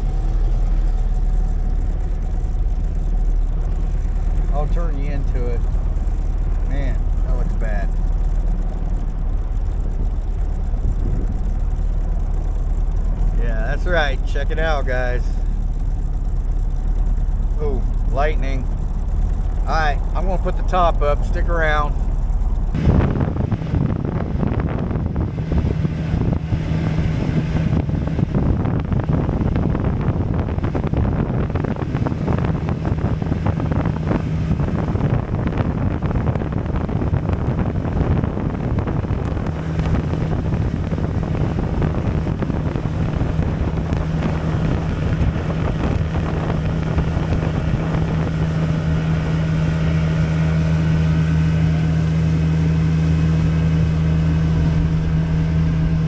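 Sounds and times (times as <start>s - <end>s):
outboard motor running: 0.0s - 56.0s
wind noise on microphone: 0.0s - 56.0s.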